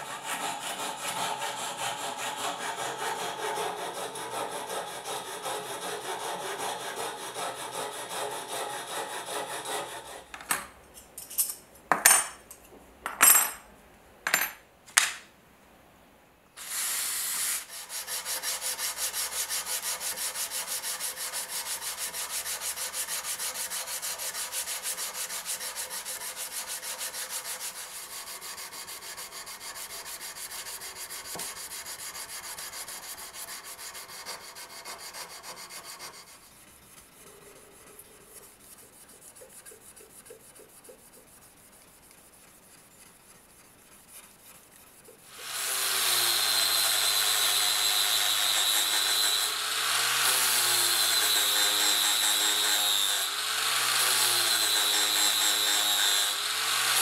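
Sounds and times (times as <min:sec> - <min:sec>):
abrasive strip sanding steel blade: 0:00.0 - 0:10.3, 0:16.6 - 0:36.6, 0:37.2 - 0:57.0.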